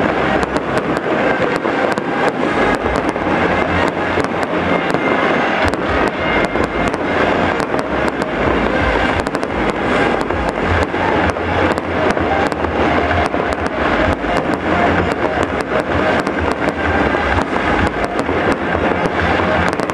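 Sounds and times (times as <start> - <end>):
fireworks bursting: 0.0 - 19.9.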